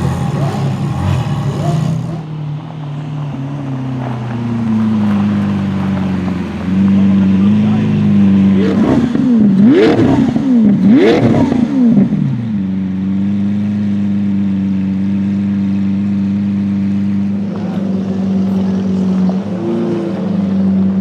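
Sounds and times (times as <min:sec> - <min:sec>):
sports car engine revving: 0:00.0 - 0:21.0.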